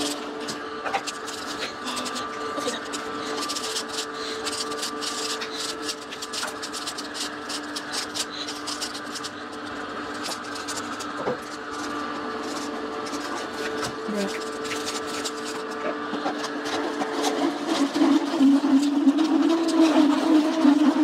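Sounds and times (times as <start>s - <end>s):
juicer motor hum: 0.0s - 21.0s.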